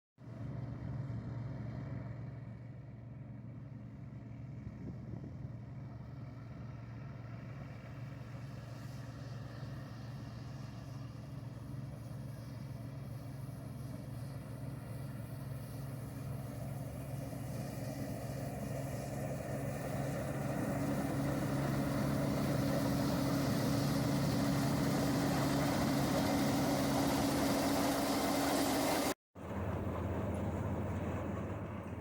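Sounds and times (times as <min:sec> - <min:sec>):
combine harvester engine drone: 0:00.2 - 0:32.0.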